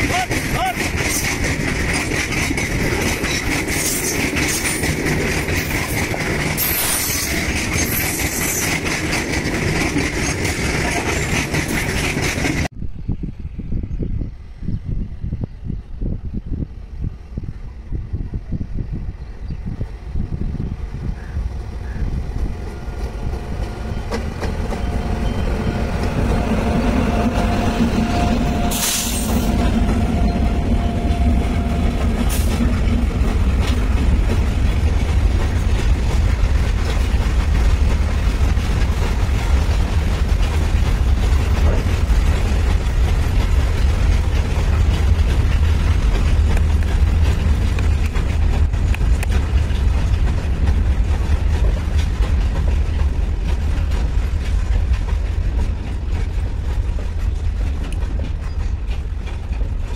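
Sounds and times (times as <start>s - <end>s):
locomotive hum: 0.0s - 59.9s
train wheels rumbling on rail: 0.0s - 59.9s.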